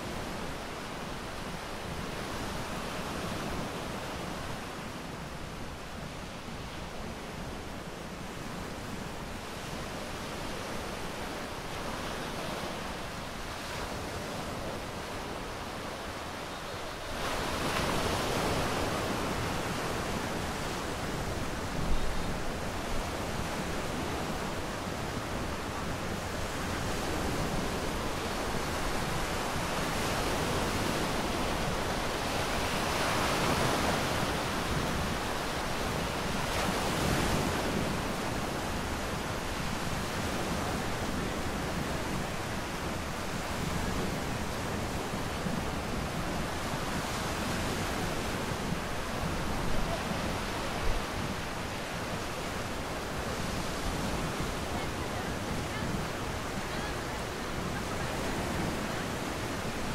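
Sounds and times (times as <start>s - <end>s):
waves washing on beach: 0.0s - 59.9s
wind on microphone: 0.0s - 59.9s.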